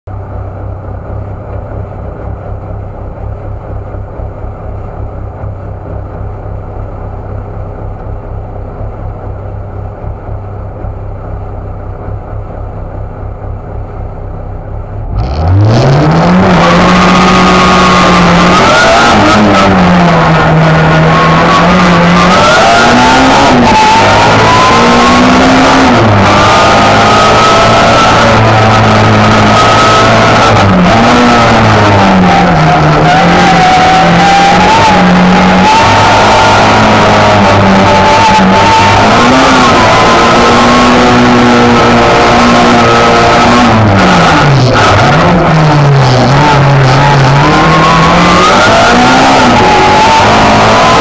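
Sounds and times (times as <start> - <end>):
race car engine: 0.1 - 51.0.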